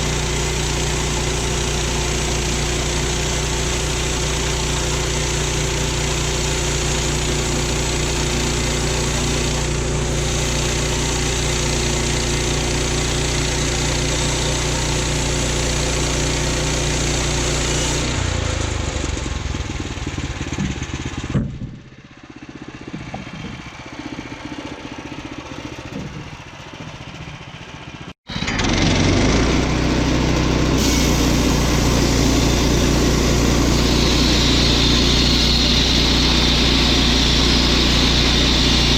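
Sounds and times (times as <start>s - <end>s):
gas engine running: 0.0s - 38.9s.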